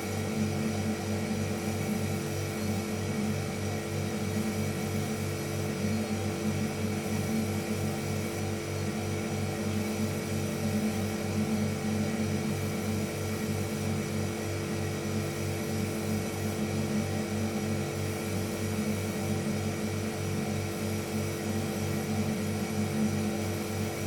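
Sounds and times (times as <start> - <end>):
refrigerator compressor humming: 0.0 - 24.0.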